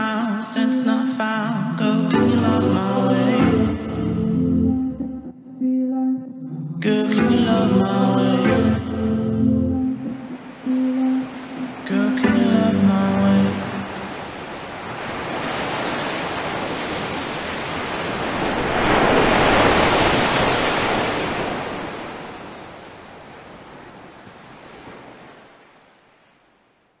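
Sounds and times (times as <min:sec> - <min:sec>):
ocean surf breaking: 0:01.6 - 0:04.4, 0:07.0 - 0:26.3.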